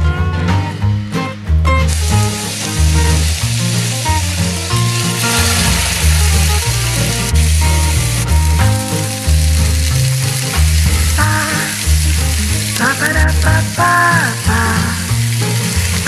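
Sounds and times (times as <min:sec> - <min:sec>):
background music with bass: 0:00.0 - 0:16.0
skewers sizzling on grill pan: 0:01.9 - 0:16.0.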